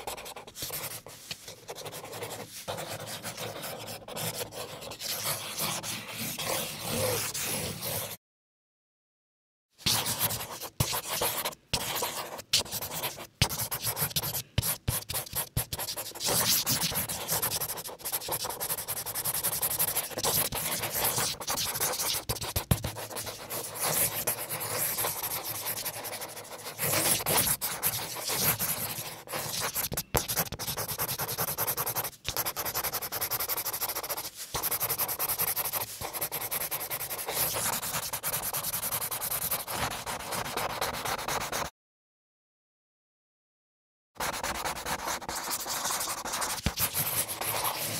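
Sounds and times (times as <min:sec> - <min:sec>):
pen scratching on paper: 0:00.0 - 0:08.2, 0:09.8 - 0:41.7, 0:44.2 - 0:47.9.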